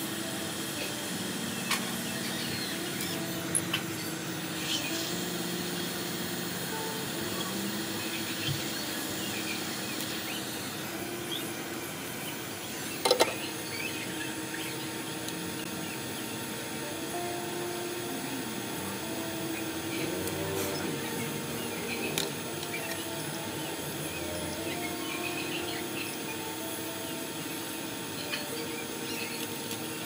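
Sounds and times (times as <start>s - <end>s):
hot air station blowing: 0.0s - 30.0s.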